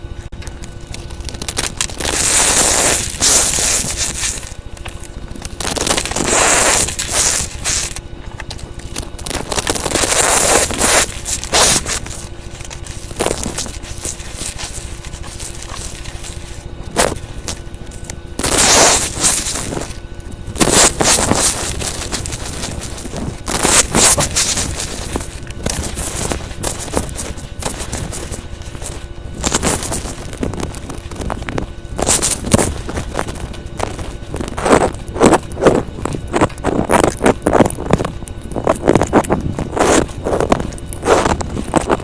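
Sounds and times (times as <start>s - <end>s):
fidget toys crackling and scraping: 0.3s - 42.0s.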